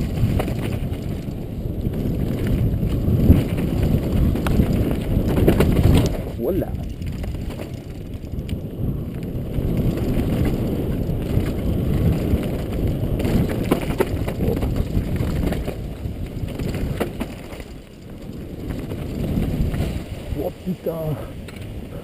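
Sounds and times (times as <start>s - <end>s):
bike knocks and rattles on rocks: 0.0s - 20.2s
bike tyres rumbling on gravel: 0.0s - 22.0s.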